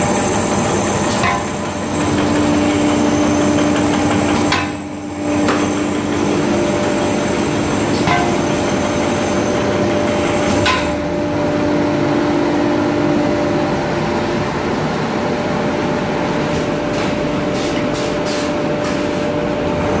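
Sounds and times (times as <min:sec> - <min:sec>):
brush machine clattering and humming: 0:00.0 - 0:20.0.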